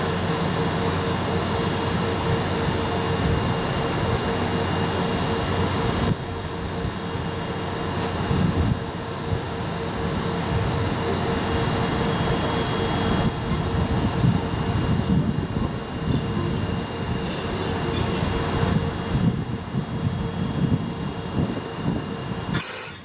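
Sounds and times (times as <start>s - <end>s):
locomotive machinery humming: 0.0s - 23.0s.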